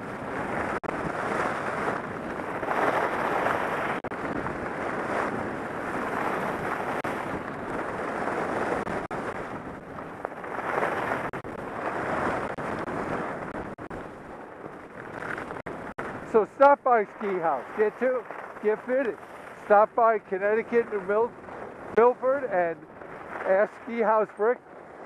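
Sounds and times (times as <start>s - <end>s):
wind on microphone: 0.0s - 25.0s
skis scraping on snow: 0.1s - 25.0s.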